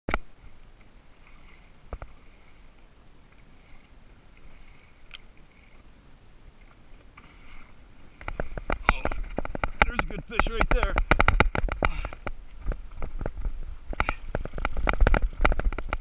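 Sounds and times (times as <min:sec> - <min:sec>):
water lapping against kayak hull: 0:00.3 - 0:16.0.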